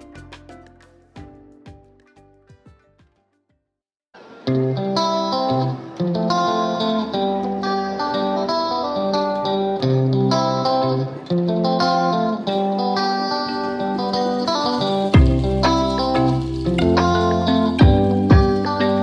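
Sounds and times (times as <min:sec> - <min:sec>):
plucked guitar music: 0:00.0 - 0:03.3, 0:04.2 - 0:19.0.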